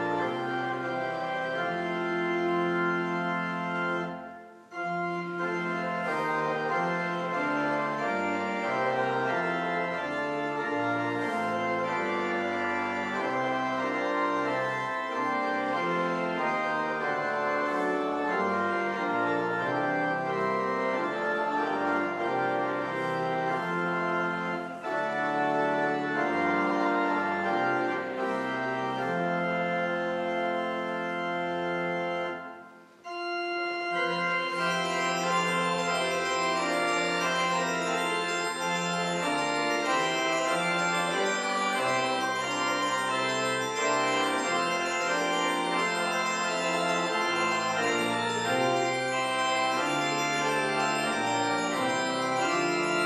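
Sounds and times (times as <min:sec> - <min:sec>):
church organ playing hymn: 0:00.0 - 0:53.0.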